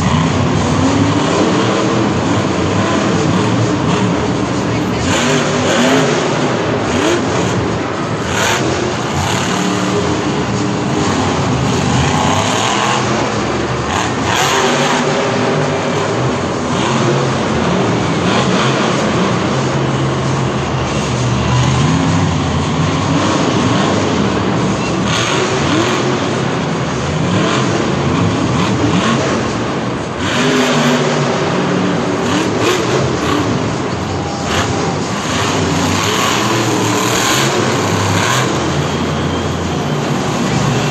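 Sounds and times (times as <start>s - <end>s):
monster truck engines revving: 0.0s - 40.9s.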